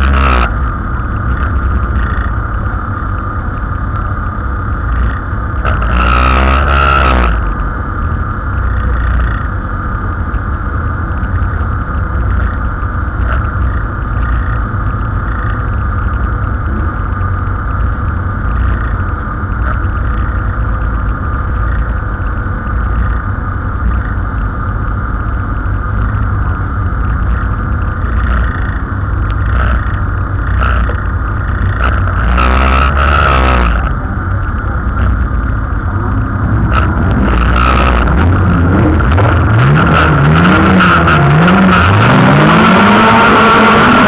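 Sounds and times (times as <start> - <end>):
race car engines idling: 0.0 - 44.0
race car engines revving: 0.0 - 44.0.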